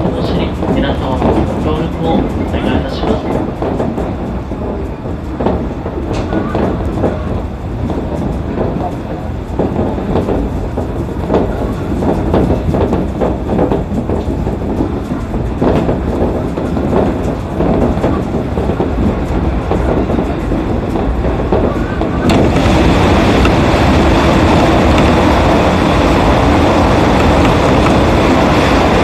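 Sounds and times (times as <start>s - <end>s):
monorail car low rumble: 0.0s - 29.0s
rattles and knocks: 0.0s - 29.0s.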